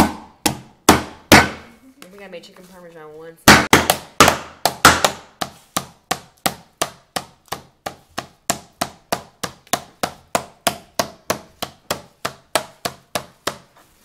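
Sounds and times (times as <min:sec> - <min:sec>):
meat mallet pounding chicken: 0:00.0 - 0:01.6, 0:03.5 - 0:13.7.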